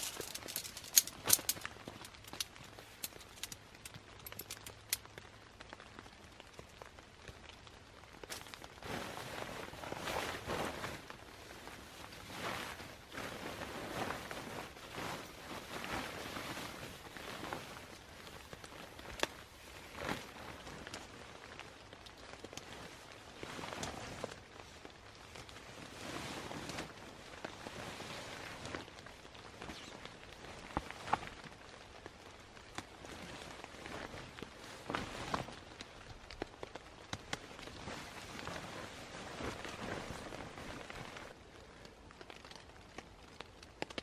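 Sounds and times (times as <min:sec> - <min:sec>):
fabric rustling and swishing: 0:00.0 - 0:03.5, 0:08.0 - 0:41.4.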